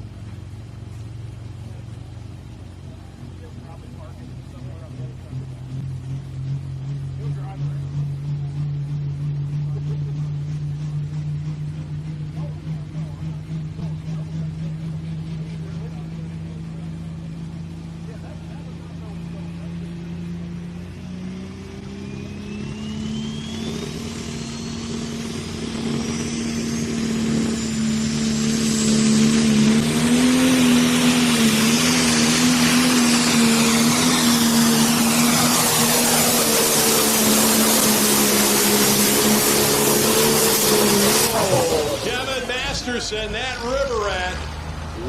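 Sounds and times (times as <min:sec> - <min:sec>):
tractor engine running hard: 0:00.0 - 0:45.0
turbo whine: 0:00.0 - 0:45.0.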